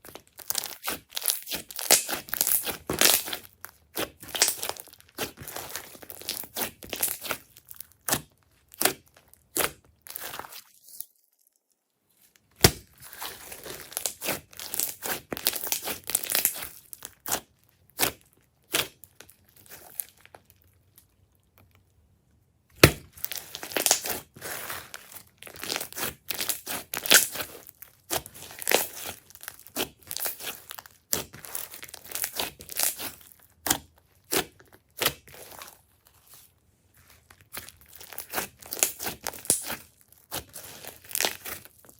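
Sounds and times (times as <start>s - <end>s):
slime squished by hand: 0.0s - 10.7s, 12.6s - 20.4s, 22.7s - 41.9s.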